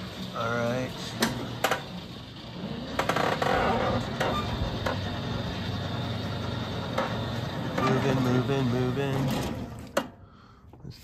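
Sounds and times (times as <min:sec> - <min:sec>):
electric motor hum: 0:00.0 - 0:10.0.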